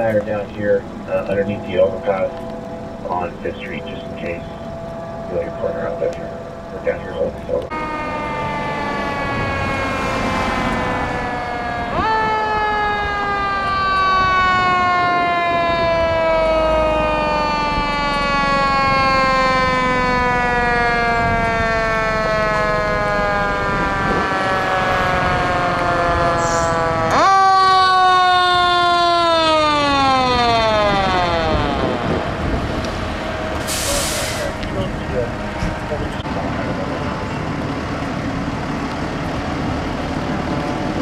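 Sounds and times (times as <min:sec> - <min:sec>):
mechanical fire siren: 0:00.0 - 0:41.0.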